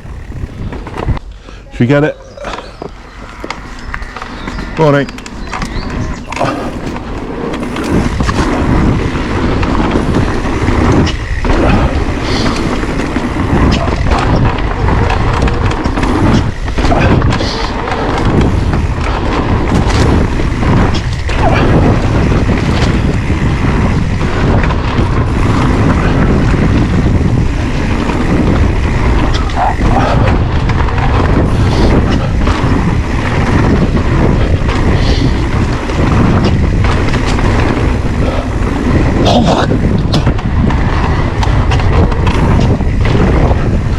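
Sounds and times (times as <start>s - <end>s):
bike knocking and rattling: 0.0s - 1.3s, 1.9s - 43.9s
tyres rumbling on ground: 0.0s - 43.9s
wind on microphone: 0.0s - 43.9s.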